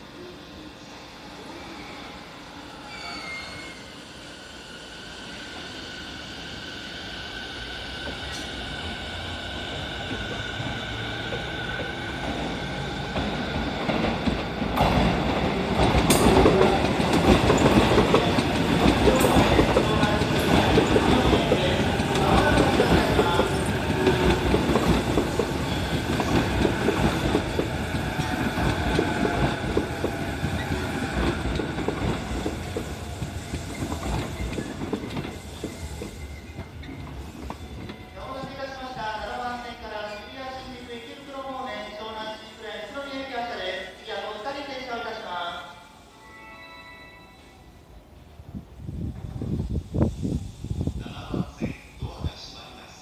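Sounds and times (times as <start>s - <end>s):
train high whine: 0.0s - 42.8s, 45.2s - 53.0s
electric train passing: 0.0s - 53.0s.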